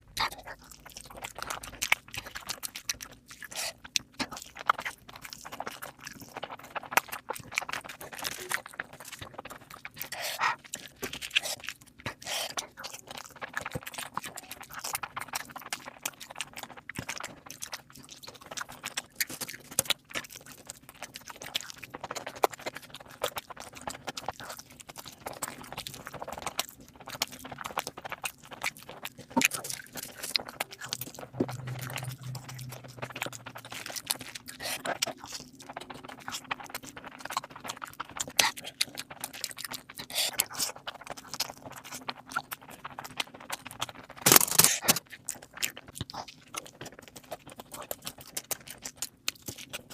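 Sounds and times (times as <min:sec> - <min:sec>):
chewing and mouth sounds: 0:00.0 - 0:49.9.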